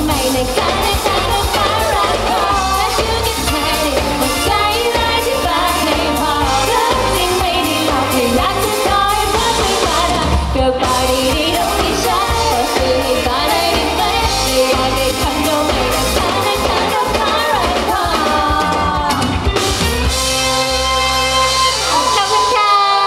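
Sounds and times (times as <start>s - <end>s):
woman singing lead: 0.0s - 19.6s, 20.4s - 23.0s
pop band playing: 0.0s - 23.0s.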